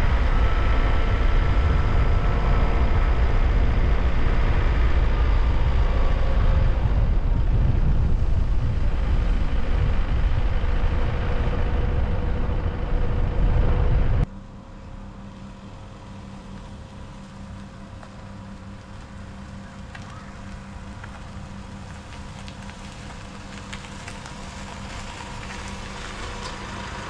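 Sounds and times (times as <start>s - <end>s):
car engine and road noise: 0.0s - 27.0s
low hum: 0.0s - 27.0s.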